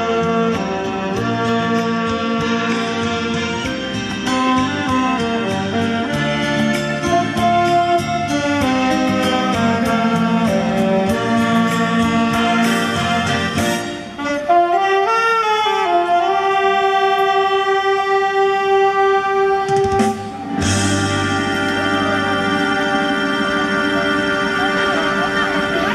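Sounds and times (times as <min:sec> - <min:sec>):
backing track with steady beat: 0:00.0 - 0:14.8, 0:15.8 - 0:25.9
saxophones playing slow melody: 0:00.0 - 0:25.9.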